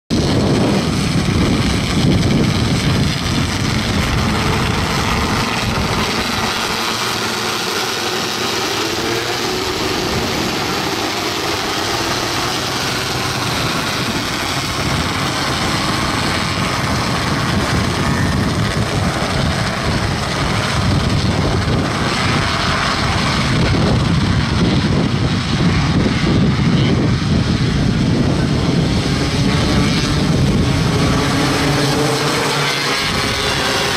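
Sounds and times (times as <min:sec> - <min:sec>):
racing car engines droning: 0:00.1 - 0:33.9.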